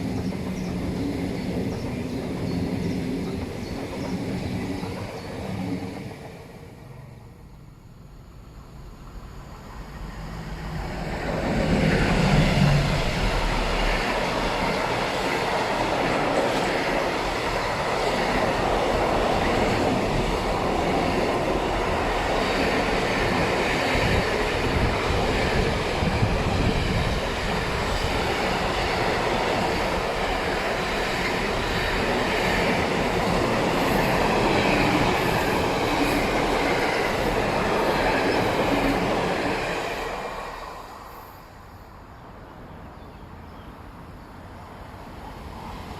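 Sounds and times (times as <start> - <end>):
wheels clacking on rails: 0.0 - 7.2, 10.8 - 40.7
electric train passing: 0.0 - 45.9.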